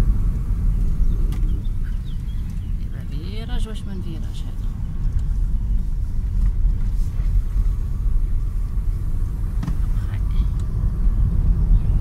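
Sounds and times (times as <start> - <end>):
car driving interior rumble: 0.0 - 12.0.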